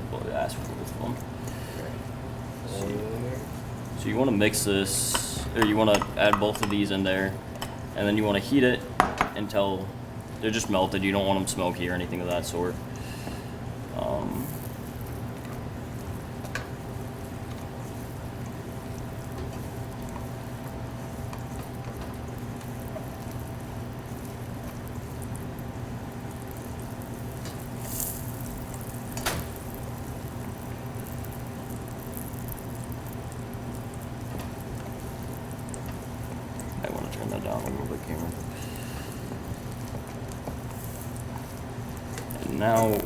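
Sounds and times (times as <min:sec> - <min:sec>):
butter sizzling in a pan: 0:00.0 - 0:43.0
steady hum: 0:00.0 - 0:43.0.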